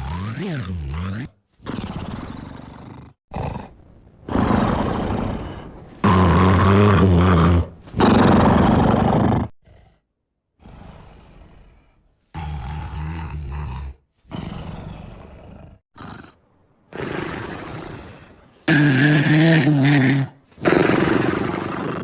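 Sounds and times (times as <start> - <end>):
cartoon dog snoring: 0.0 - 22.0.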